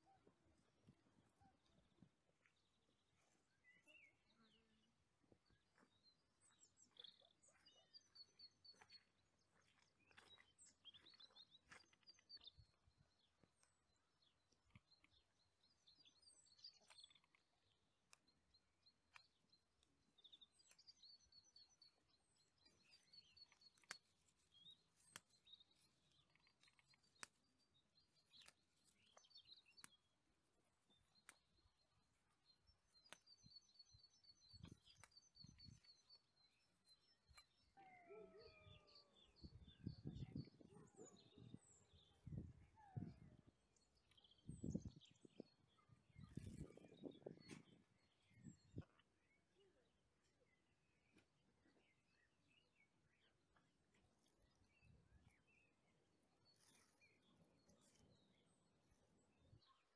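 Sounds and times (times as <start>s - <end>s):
small birds chirping and trilling: 0.0s - 59.9s.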